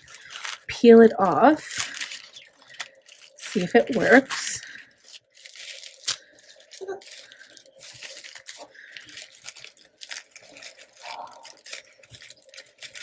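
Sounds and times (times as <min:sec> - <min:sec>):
tissue paper crinkling: 0:00.0 - 0:13.0.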